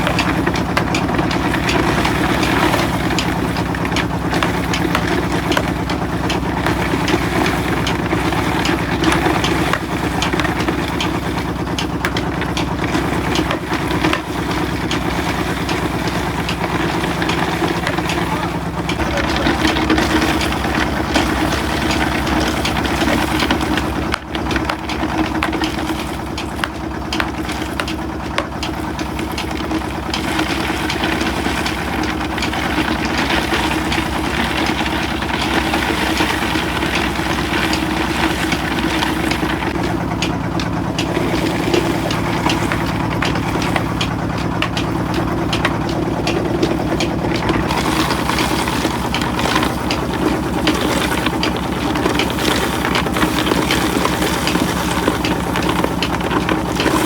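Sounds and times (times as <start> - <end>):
crushing machinery engine drone: 0.0 - 57.0.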